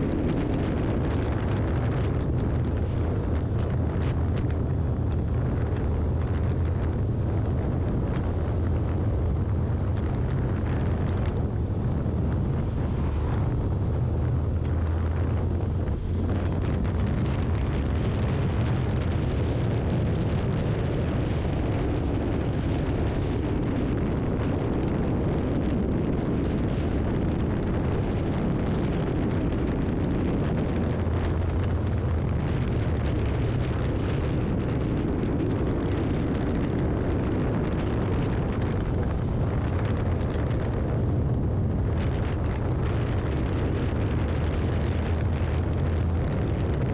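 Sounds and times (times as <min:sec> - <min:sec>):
motorcycle engine drone: 0:00.0 - 0:46.9
wind buffeting a microphone: 0:00.0 - 0:46.9.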